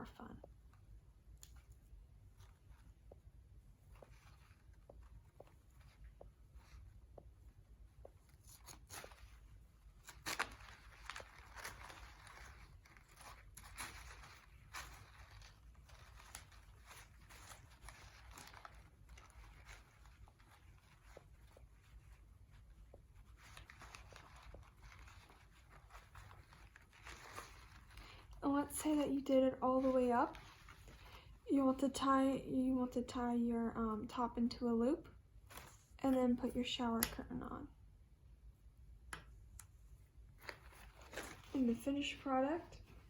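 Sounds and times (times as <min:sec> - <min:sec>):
paper filters rustling and crinkling: 0:01.5 - 0:32.2, 0:35.4 - 0:37.3, 0:39.4 - 0:43.0.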